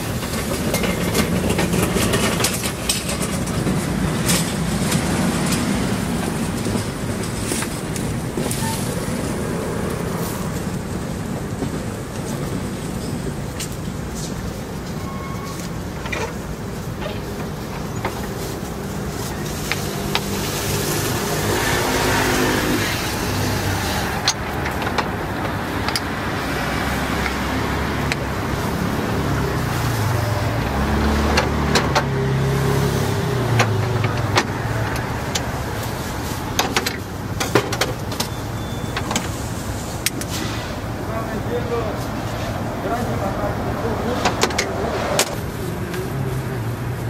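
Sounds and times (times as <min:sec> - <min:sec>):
low engine rumble: 0:00.0 - 0:47.0
traffic passing: 0:00.0 - 0:47.0.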